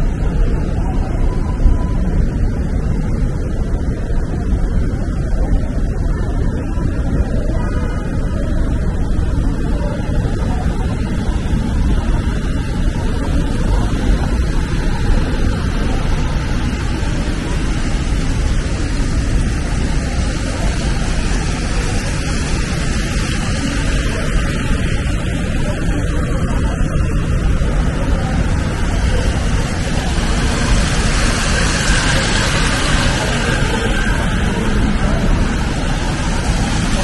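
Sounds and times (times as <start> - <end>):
traffic rumble and hiss: 0.0 - 37.0.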